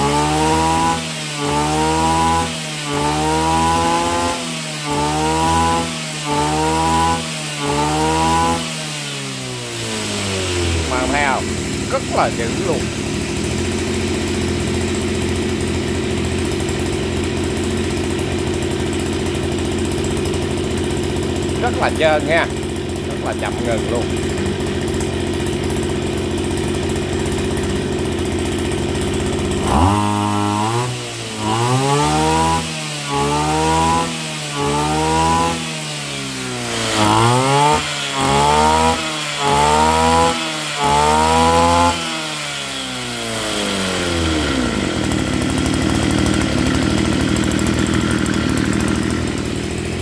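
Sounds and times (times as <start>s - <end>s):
brushcutter engine revving: 0.0s - 50.0s.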